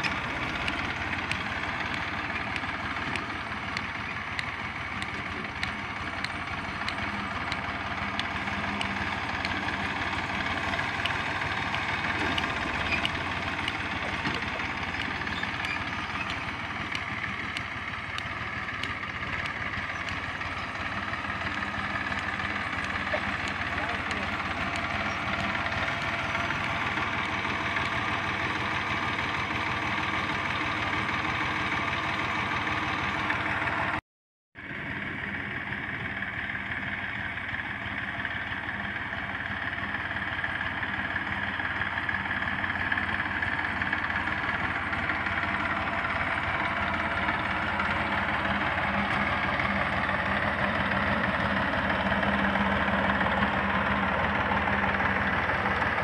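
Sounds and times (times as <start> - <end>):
tractor diesel engine running: 0.0 - 34.0, 34.6 - 56.0.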